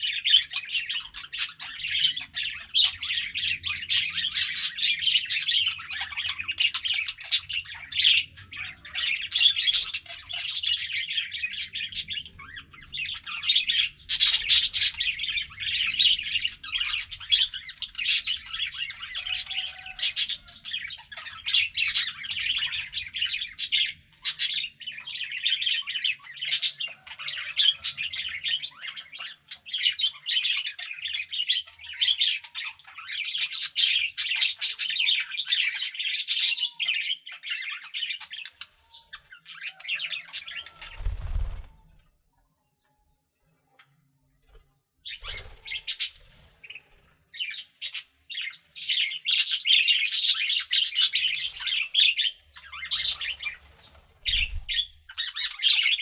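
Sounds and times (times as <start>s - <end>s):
budgerigars chattering: 0.0s - 41.6s, 45.0s - 56.0s.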